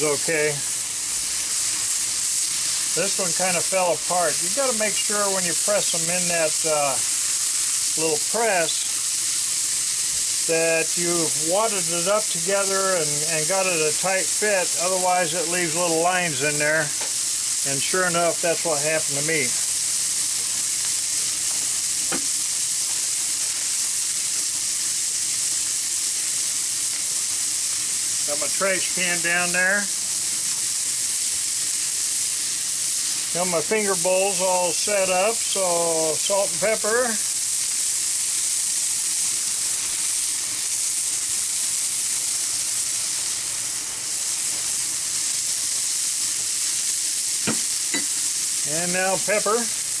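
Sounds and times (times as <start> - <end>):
meat sizzling on a griddle: 0.0 - 50.0.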